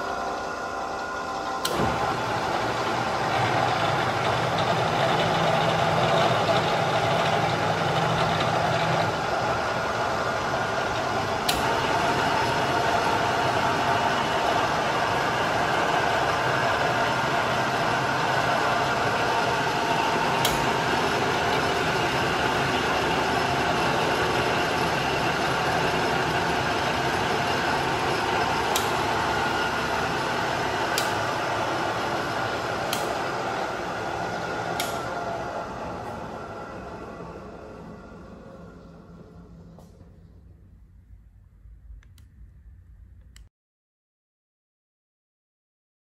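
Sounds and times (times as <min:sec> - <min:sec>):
drill press motors whirring: 0:00.0 - 0:40.2.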